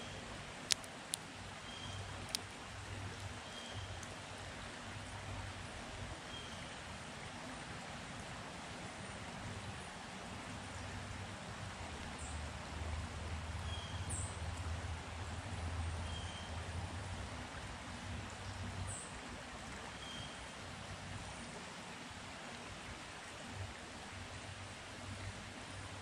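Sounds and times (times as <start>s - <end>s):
rushing forest ambience: 0.0s - 26.0s.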